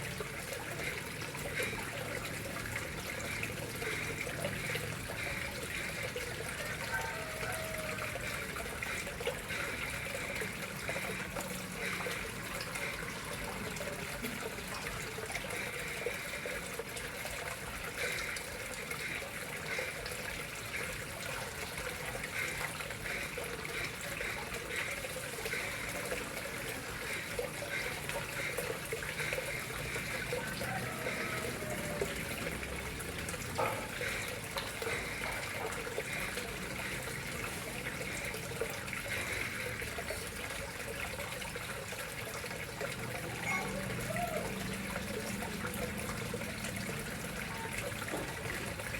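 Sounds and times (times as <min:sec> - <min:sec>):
water splashing into pond: 0:00.0 - 0:48.9.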